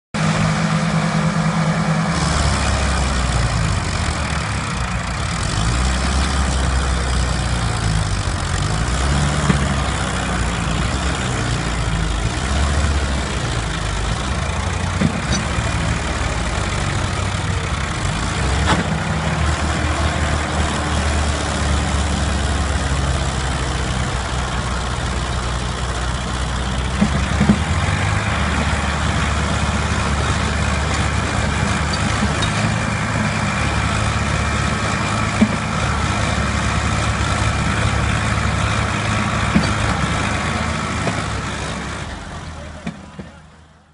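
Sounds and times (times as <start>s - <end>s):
diesel tractor engines straining: 0.2s - 43.9s.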